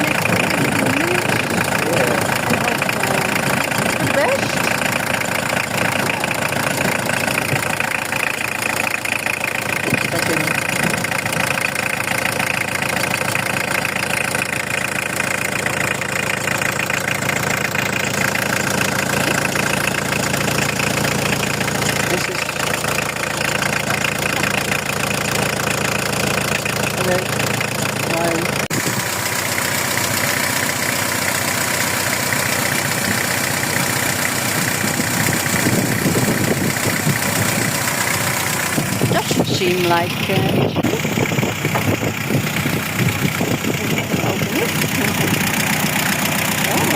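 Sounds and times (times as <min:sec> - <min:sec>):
van engine idling: 0:00.0 - 0:46.9.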